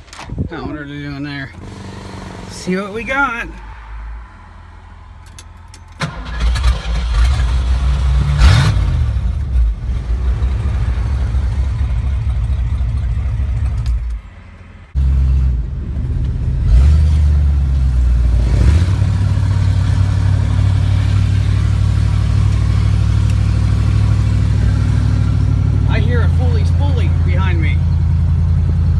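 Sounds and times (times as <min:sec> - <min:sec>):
truck engine starting and idling: 0:00.0 - 0:28.9.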